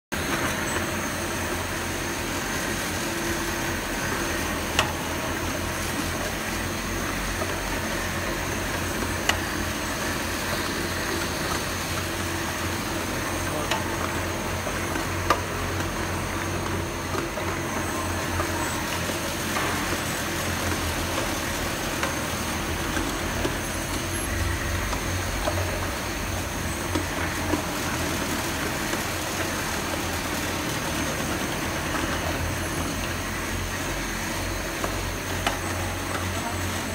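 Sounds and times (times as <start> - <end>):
bottle-filling machine humming: 0.1 - 36.9.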